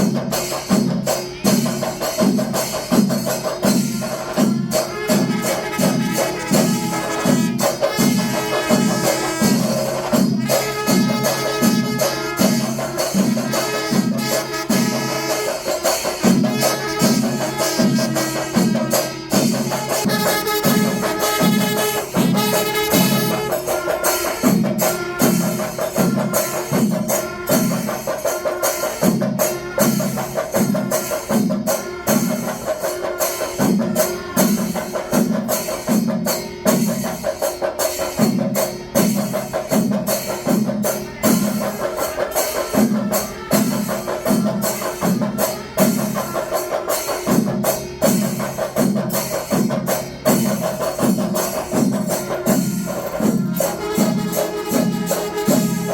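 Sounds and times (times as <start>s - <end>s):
percussion music with drums: 0.0s - 55.9s
small cymbals clashing: 0.0s - 55.9s.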